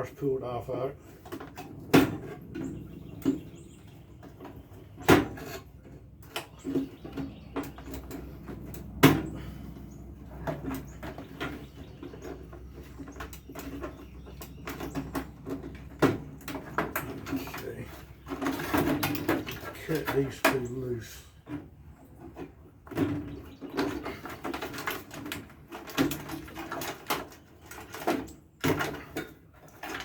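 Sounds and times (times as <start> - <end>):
wire connectors clicking and rattling: 4.2 - 30.0.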